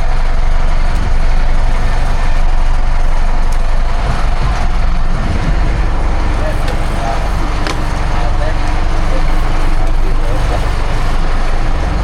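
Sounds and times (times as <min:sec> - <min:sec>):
boat engines rumbling: 0:00.0 - 0:12.0
steady hum: 0:00.0 - 0:12.0.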